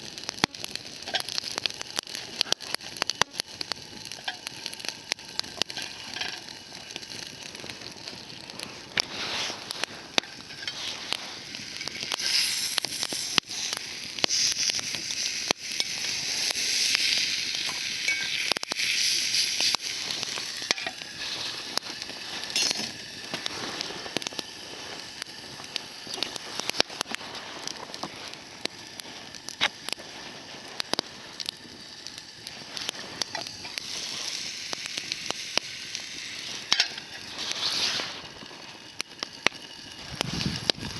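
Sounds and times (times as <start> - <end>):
fire pops and crackles: 0.0 - 40.9
meat sizzling over campfire: 0.0 - 40.9.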